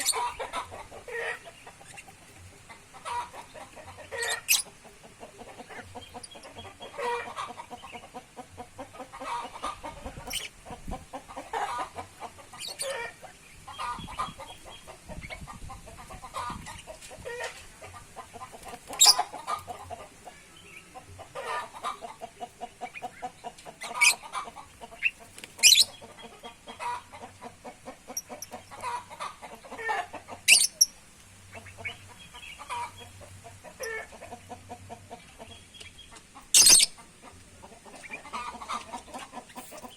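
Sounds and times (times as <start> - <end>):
birds clucking: 0.0 - 39.9.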